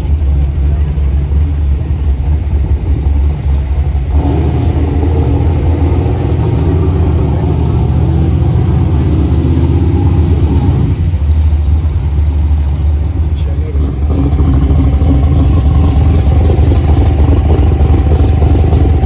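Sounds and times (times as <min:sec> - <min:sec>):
engine low rumble: 0:00.0 - 0:19.0
higher engine note: 0:00.0 - 0:19.0.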